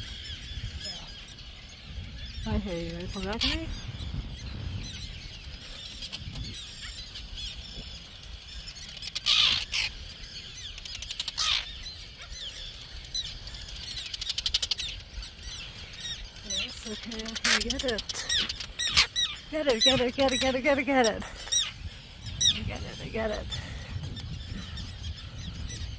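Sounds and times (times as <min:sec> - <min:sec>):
seabirds giving alarm calls: 0:00.0 - 0:25.9.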